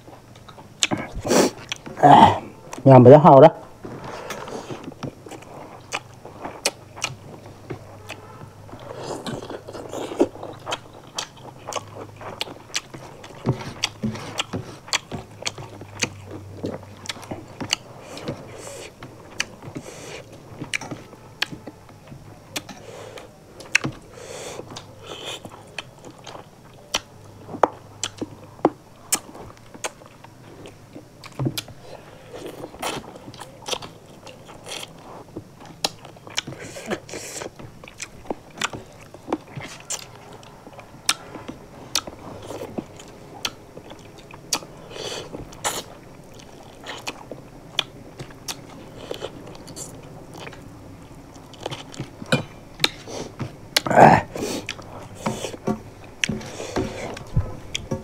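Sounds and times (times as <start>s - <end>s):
chewing and mouth smacks: 0.0s - 2.0s, 4.0s - 58.0s.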